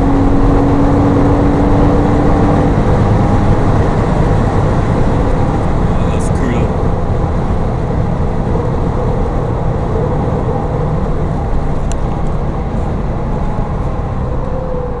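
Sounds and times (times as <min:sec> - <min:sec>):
car engine under load: 0:00.0 - 0:15.0
wind and tyre noise: 0:00.0 - 0:15.0.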